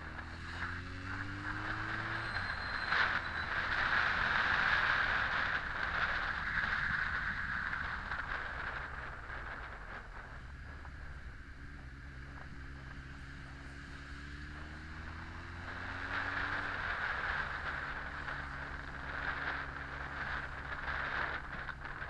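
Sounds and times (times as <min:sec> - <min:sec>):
wind rushing past microphone: 0:00.0 - 0:13.6, 0:14.2 - 0:22.0
motorcycle engine running: 0:00.0 - 0:22.0.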